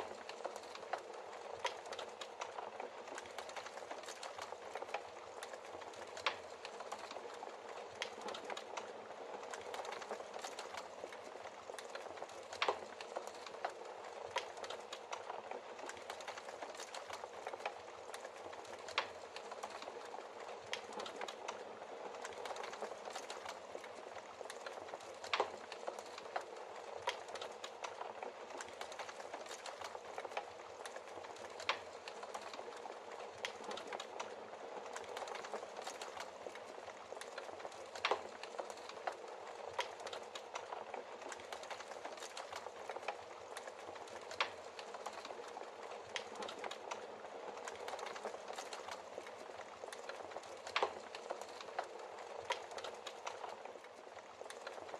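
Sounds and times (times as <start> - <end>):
burning logs popping: 0.0 - 54.9
fire hissing and crackling: 0.0 - 54.9.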